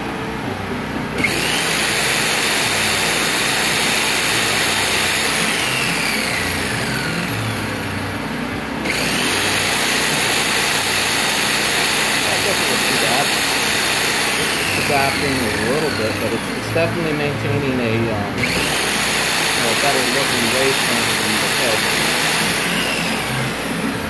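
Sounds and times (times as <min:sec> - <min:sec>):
generator engine drone: 0:00.0 - 0:24.0
electric jigsaw motor whining: 0:01.1 - 0:24.0.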